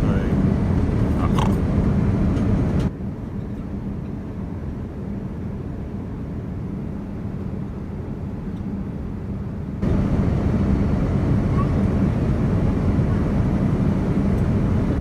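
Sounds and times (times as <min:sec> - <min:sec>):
airliner cabin noise: 0:00.0 - 0:15.0
faint steady hum: 0:00.0 - 0:15.0.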